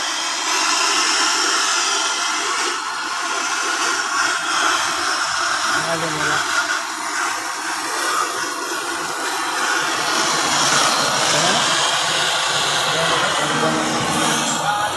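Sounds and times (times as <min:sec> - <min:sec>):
torch flame hissing: 0:00.0 - 0:14.9.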